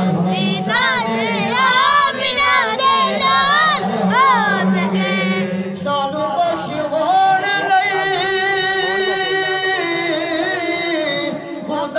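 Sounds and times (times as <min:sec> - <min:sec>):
man singing into microphone: 0:00.0 - 0:11.9.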